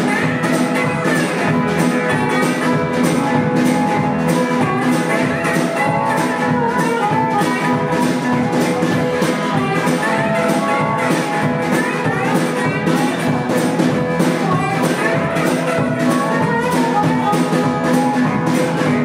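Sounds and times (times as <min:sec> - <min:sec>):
drum kit beat: 0:00.0 - 0:19.0
electric guitar: 0:00.0 - 0:19.0
harmonica wailing: 0:00.0 - 0:19.0
upright double bass: 0:00.0 - 0:19.0.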